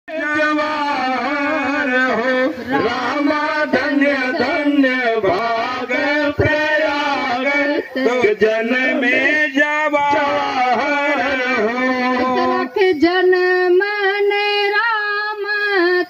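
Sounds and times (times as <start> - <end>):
man singing into a microphone: 0.1 - 16.0.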